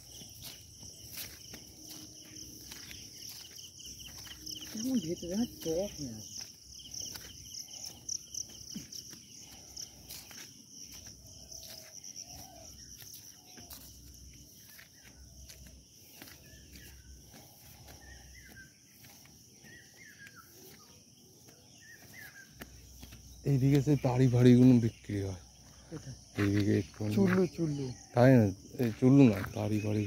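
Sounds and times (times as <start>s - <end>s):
footsteps on dirt path: 0.0s - 30.0s
insects chirring: 0.0s - 30.0s.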